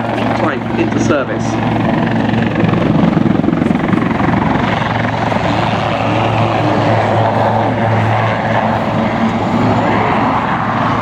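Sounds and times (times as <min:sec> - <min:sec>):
helicopter rotor chopping: 0:00.0 - 0:11.0
helicopter turbine engines: 0:00.0 - 0:11.0.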